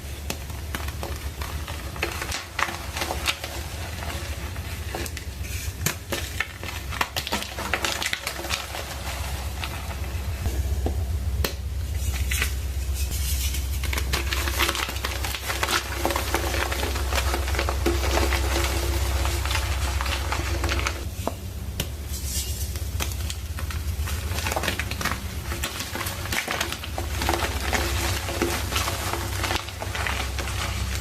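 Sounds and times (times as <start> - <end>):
chalk block crunching: 0.0 - 10.5, 11.9 - 21.1, 22.1 - 31.0
low steady hum: 0.0 - 31.0.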